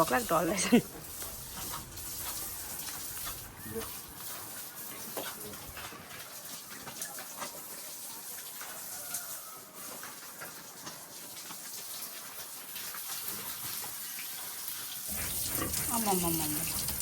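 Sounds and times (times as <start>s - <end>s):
hose water splashing on concrete: 0.0s - 17.0s.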